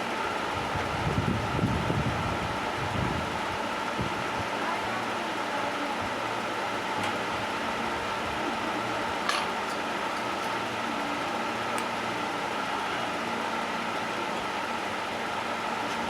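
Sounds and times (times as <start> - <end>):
mechanical hum with whir: 0.0 - 16.0.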